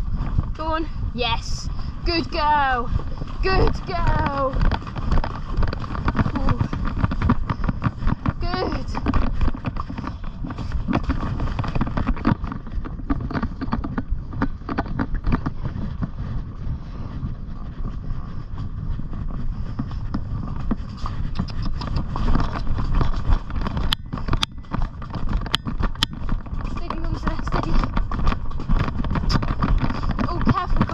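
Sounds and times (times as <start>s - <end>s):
hooves and tack clattering: 0.0s - 30.9s
low rumble of movement: 0.0s - 30.9s.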